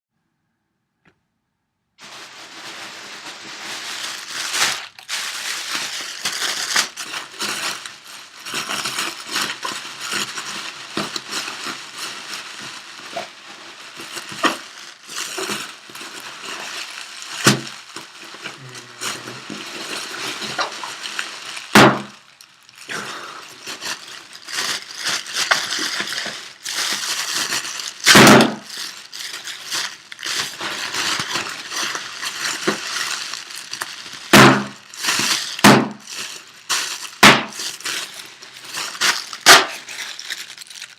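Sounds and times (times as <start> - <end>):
packing pillows popping: 2.0 - 40.9
plastic packing pillows crinkling: 2.0 - 40.9.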